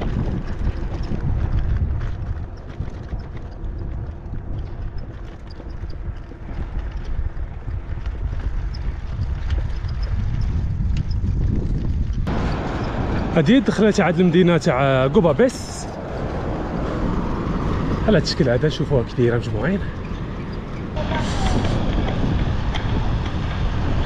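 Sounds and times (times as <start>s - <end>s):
light ticks and rattles: 0.0s - 23.6s
bicycle tyre rumble on asphalt: 0.0s - 24.0s
wind buffeting microphone: 0.0s - 24.0s.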